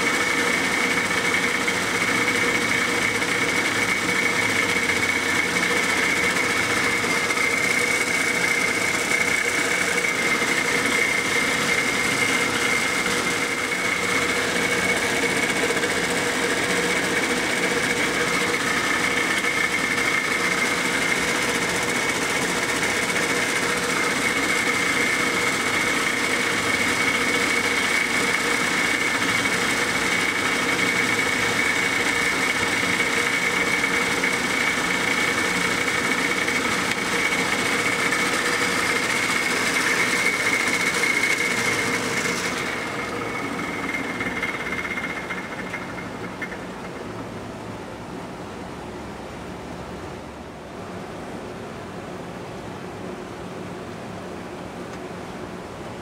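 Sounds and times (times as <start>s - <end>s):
electric motor whining: 0.0s - 46.7s.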